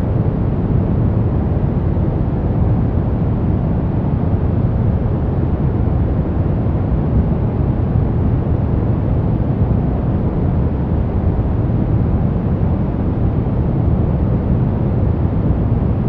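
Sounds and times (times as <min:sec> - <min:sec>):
deep white noise: 0:00.0 - 0:16.0.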